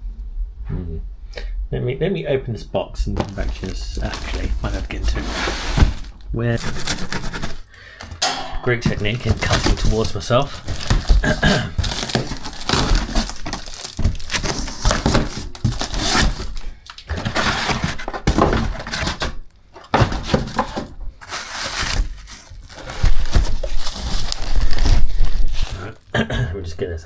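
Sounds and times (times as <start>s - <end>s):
cardboard tearing: 3.2s - 7.7s, 8.8s - 26.1s.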